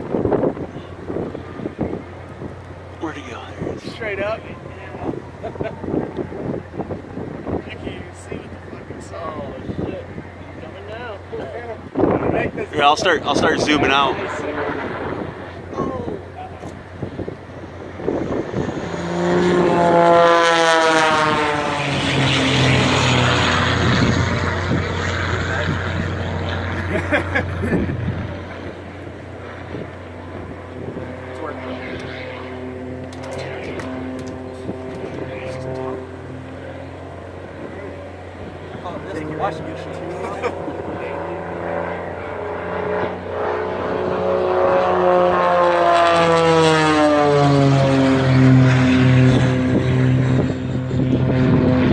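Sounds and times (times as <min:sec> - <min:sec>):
steady rushing noise: 0:00.0 - 0:46.7
propeller airplane passing: 0:00.0 - 0:51.9.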